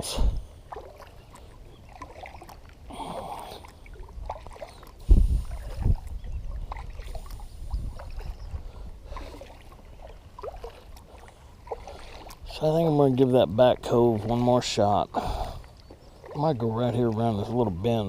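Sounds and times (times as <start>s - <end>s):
water noise: 0.0s - 18.0s.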